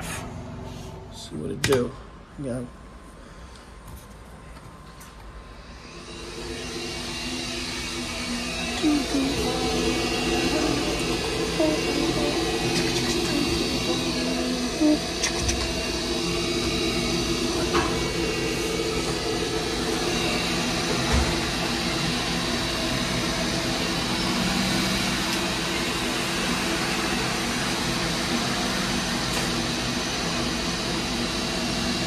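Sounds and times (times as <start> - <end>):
furnace draft inducer motor hum: 0.0 - 32.0.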